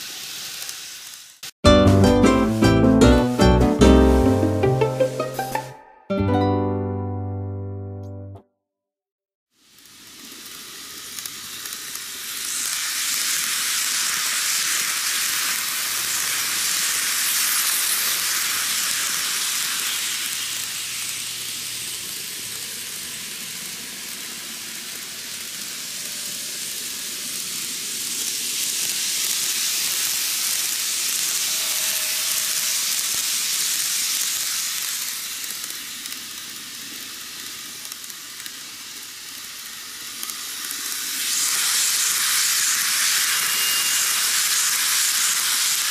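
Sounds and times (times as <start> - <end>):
model train motor whir: 0.0 - 1.5, 9.6 - 45.9
model train wheels hissing on rail: 0.0 - 1.6, 9.5 - 45.9.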